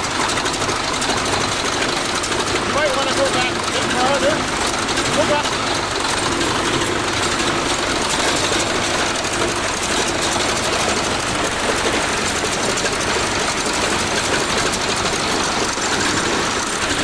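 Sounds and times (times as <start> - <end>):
bulldozer engine running: 0.0 - 17.0.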